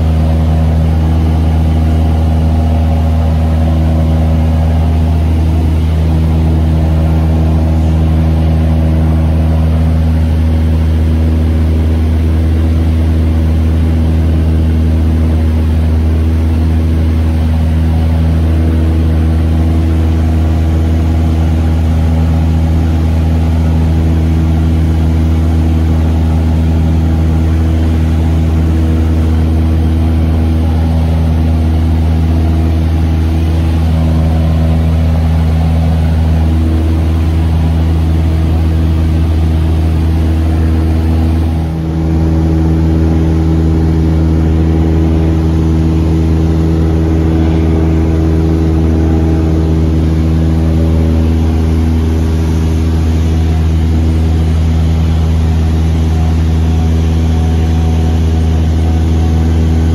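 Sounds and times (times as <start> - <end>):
propeller aircraft engine humming: 0.0 - 59.9.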